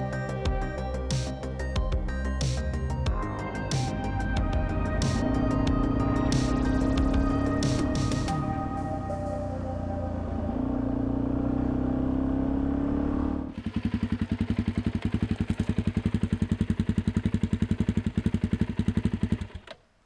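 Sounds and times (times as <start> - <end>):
motorcycle engine idling: 1.6 - 11.6, 13.4 - 19.8.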